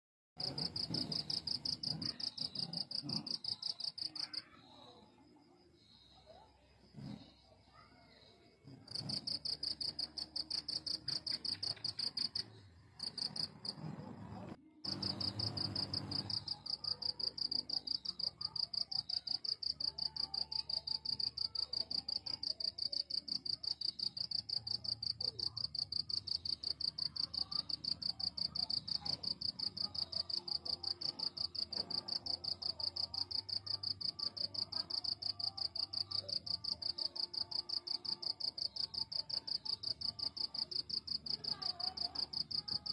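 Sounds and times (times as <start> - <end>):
cricket chirping: 0.4 - 13.8, 14.9 - 42.9.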